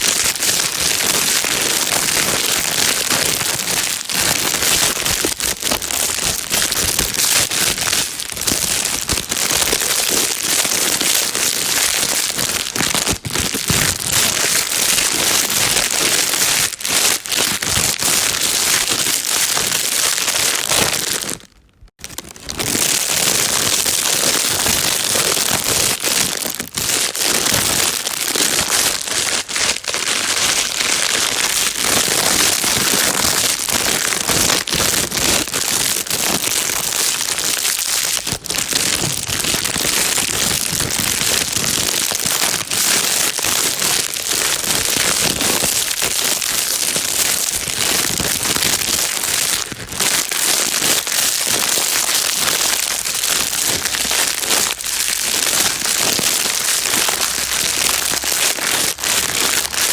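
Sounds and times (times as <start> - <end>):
plastic bag crinkling: 0.0 - 59.9.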